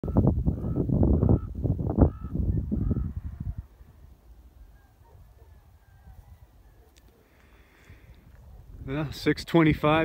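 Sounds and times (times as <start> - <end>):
distant bird calls: 0.1 - 8.7.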